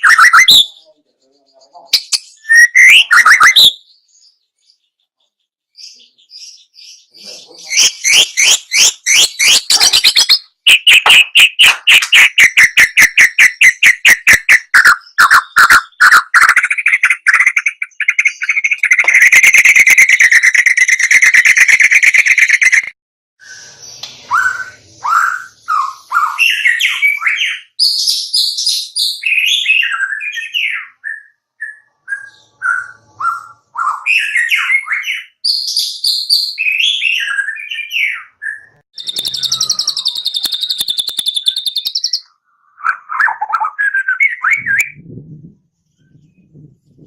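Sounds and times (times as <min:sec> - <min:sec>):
songbird whistling and chattering: 0:00.0 - 0:04.9, 0:05.8 - 0:45.0.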